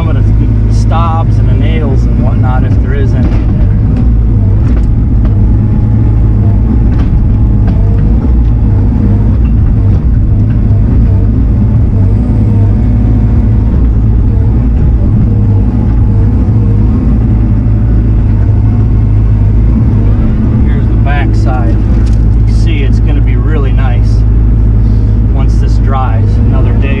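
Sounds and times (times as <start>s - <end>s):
diesel engine running under load: 0.0s - 27.0s
whine rising and falling: 0.0s - 27.0s.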